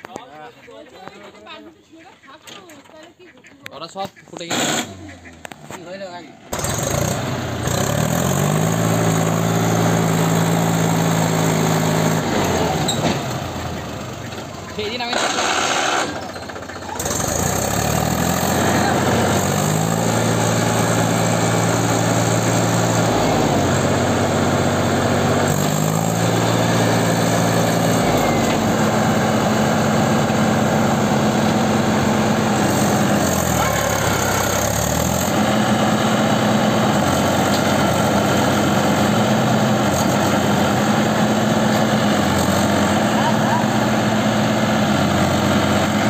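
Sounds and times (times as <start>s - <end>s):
tractor diesel engine revving: 4.4s - 46.0s.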